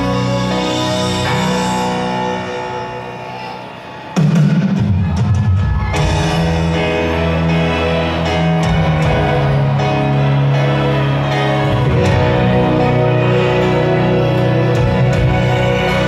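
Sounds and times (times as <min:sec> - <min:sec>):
live rock music over loudspeakers: 0:00.0 - 0:16.0.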